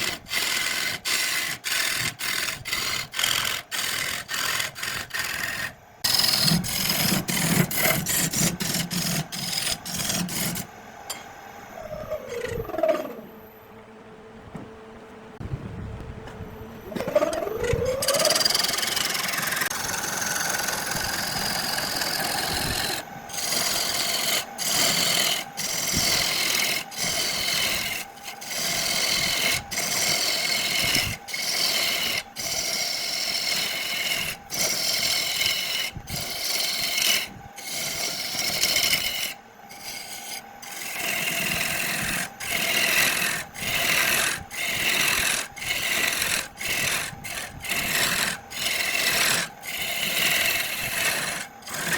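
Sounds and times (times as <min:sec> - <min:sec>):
wood lathe motor: 0:00.0 - 0:10.7, 0:11.8 - 0:13.3, 0:16.9 - 0:51.9
tool scraping spinning wood: 0:00.0 - 0:13.4, 0:16.2 - 0:51.9.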